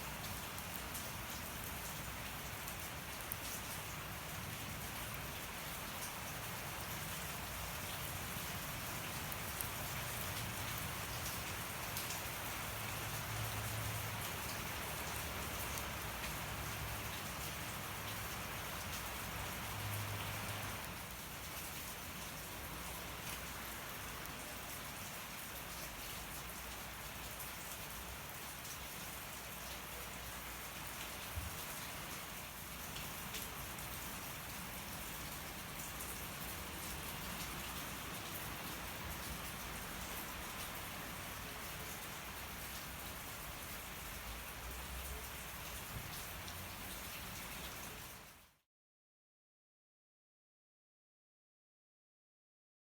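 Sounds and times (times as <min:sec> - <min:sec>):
rain pattering on surfaces: 0:00.0 - 0:48.6.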